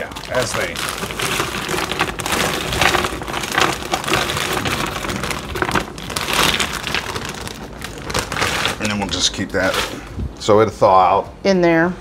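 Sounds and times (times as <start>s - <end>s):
frozen vegetables clattering into pot: 0.0s - 10.1s
plastic bag crinkling: 0.0s - 10.2s.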